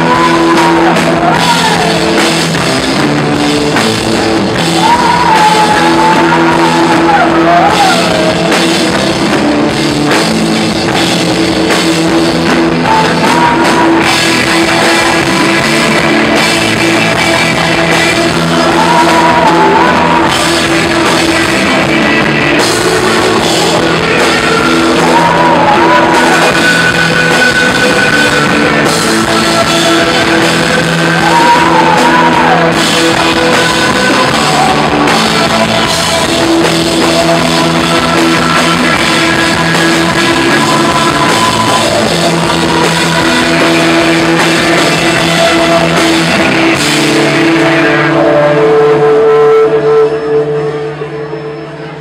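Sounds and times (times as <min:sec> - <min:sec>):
person singing: 0:00.0 - 0:52.0
rock band playing: 0:00.0 - 0:52.0.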